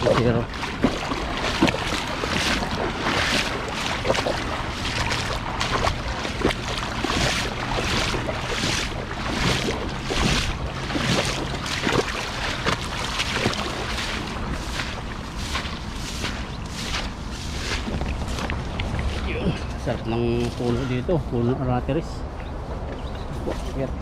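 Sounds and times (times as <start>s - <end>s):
river water rushing: 0.0s - 21.0s
water splashing with footsteps: 0.0s - 24.0s.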